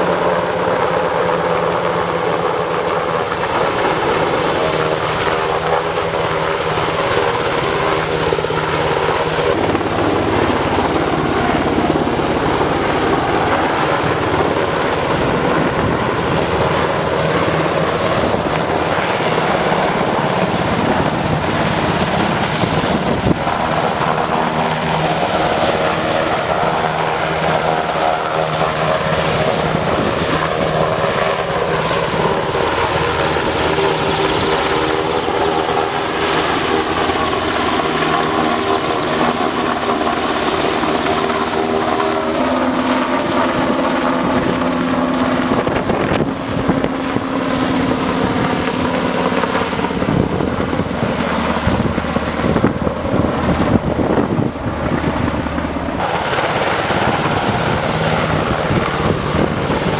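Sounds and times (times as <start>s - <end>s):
helicopter hovering: 0.0s - 59.9s.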